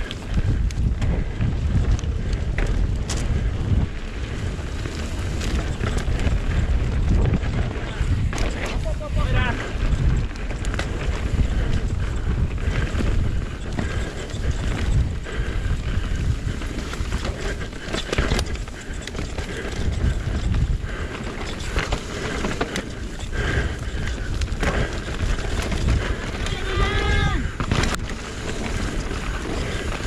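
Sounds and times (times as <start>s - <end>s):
bike knocking and rattling: 0.0s - 30.0s
tyres rumbling: 0.0s - 30.0s
wind rushing over microphone: 0.0s - 30.0s.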